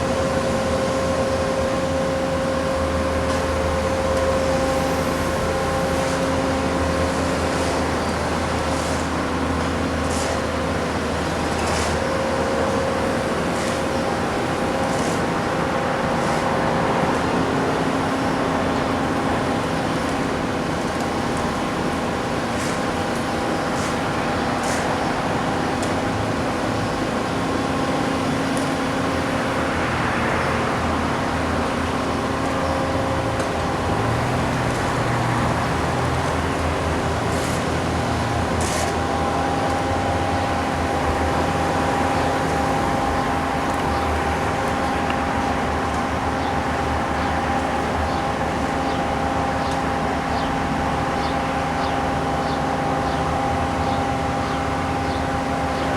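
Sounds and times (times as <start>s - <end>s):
engine and hydraulic drone: 0.0s - 55.9s.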